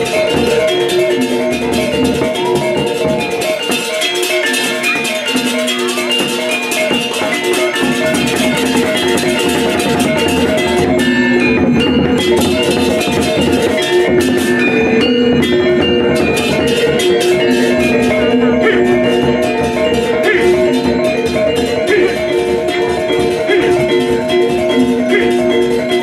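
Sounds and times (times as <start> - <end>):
drums: 0.0 - 26.0
metallophones ringing: 0.0 - 26.0
small cymbals: 0.0 - 26.0.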